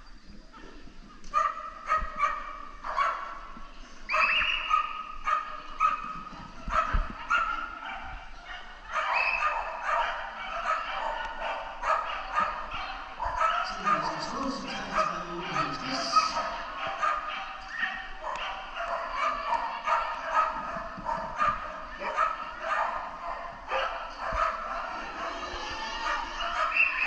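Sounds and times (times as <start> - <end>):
dog barking: 1.3 - 3.4, 4.1 - 27.0.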